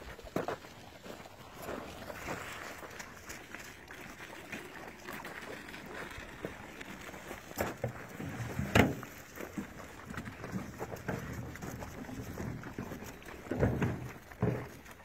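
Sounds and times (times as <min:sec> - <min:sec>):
pigs chewing and crunching fruit: 0:00.0 - 0:15.0.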